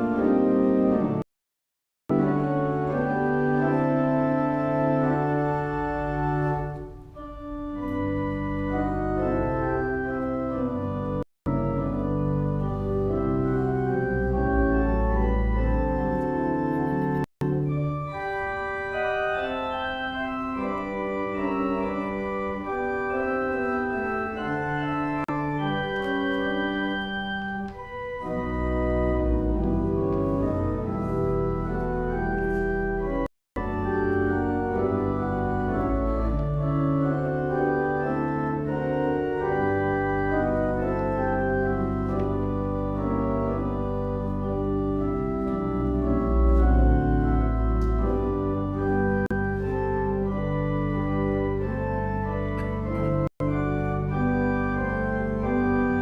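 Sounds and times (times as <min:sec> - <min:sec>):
church organ chords: 0:00.0 - 0:01.2, 0:02.1 - 0:56.0
deep organ pedal bass notes: 0:00.0 - 0:01.2, 0:02.1 - 0:56.0.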